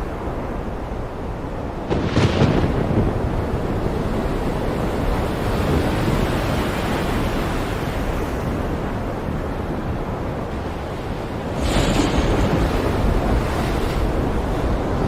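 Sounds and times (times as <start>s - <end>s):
heavy surf: 0.0s - 15.0s
wind: 0.0s - 15.0s.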